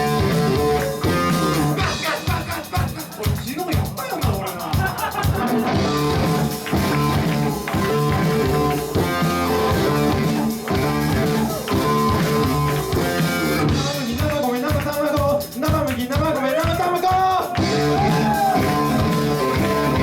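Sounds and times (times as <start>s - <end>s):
electric guitar: 0.0s - 4.0s, 4.7s - 16.0s, 17.0s - 20.0s
drum kit: 0.0s - 20.0s
person singing: 0.0s - 20.0s.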